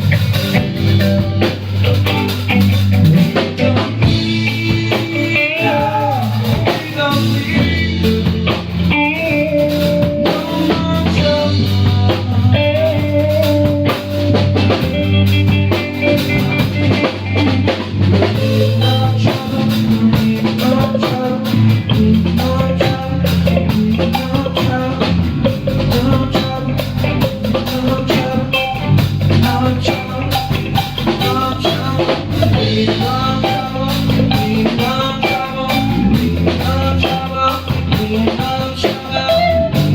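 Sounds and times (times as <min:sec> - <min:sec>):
bass notes: 0:00.0 - 0:39.9
drum kit beat: 0:00.0 - 0:39.9
guitar lines: 0:00.0 - 0:39.9.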